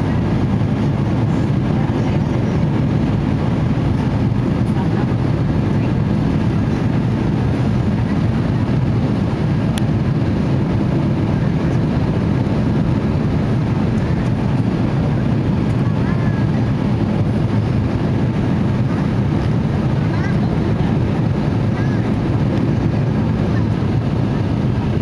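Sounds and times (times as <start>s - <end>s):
jet airliner cabin noise: 0.0s - 25.0s.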